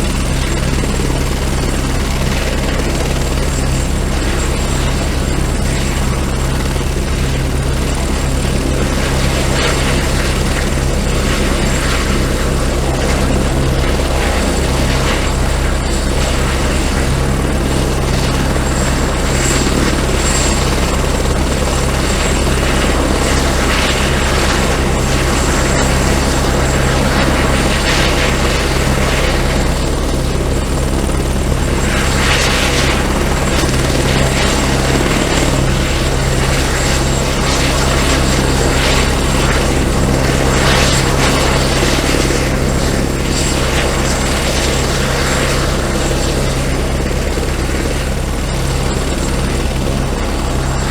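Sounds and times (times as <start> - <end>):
helicopter rotor and engine drone: 0.0 - 50.9.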